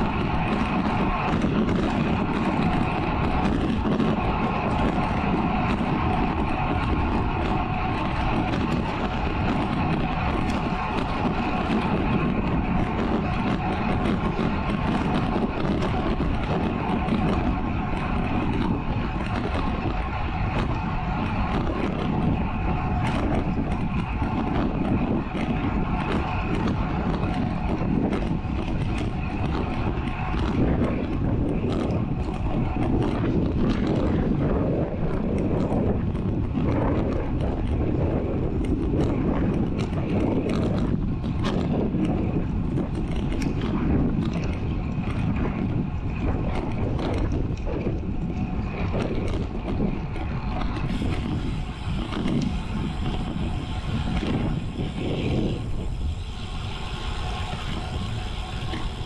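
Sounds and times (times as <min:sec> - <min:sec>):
tyre rumble on asphalt: 0:00.0 - 0:59.0
wind buffeting microphone: 0:00.0 - 0:59.0.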